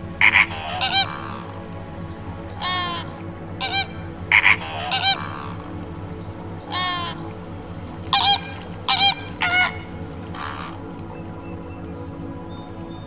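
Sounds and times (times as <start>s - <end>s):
low background hum: 0.0s - 11.4s
bird calls: 0.0s - 11.6s.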